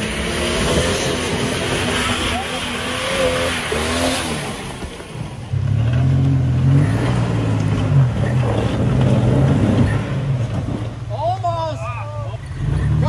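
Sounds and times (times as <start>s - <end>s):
suv engine revving: 0.0s - 11.5s, 12.1s - 13.0s.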